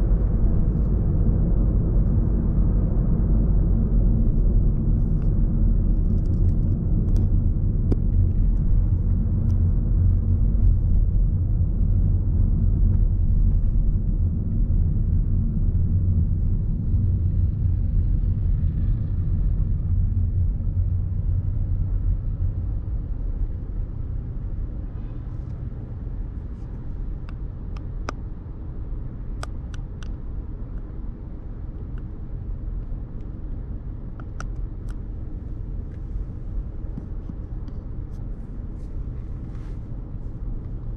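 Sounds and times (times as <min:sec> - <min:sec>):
low rumble of passing cars: 0:00.0 - 0:40.9.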